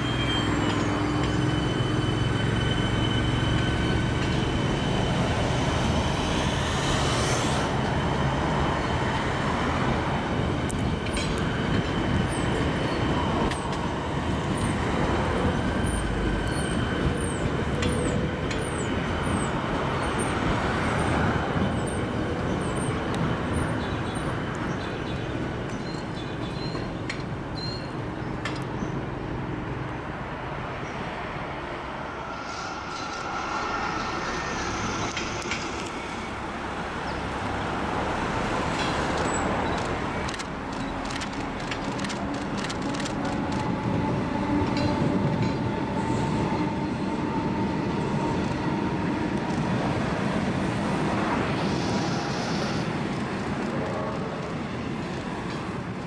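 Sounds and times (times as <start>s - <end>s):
electric train crossing bridge: 0.0s - 56.0s.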